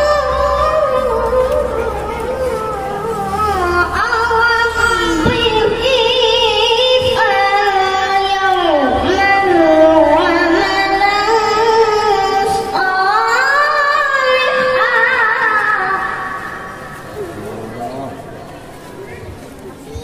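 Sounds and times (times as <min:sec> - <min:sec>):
boy chanting over loudspeaker: 0:00.0 - 0:18.4.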